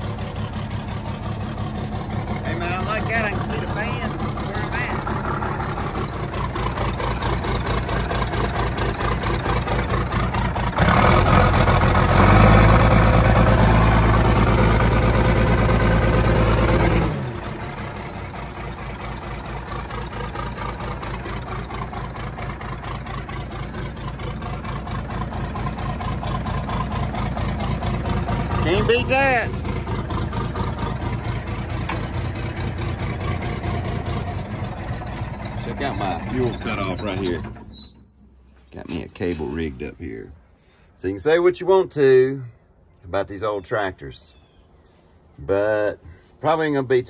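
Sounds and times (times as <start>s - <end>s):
crawler loader engine revving: 0.0s - 40.2s.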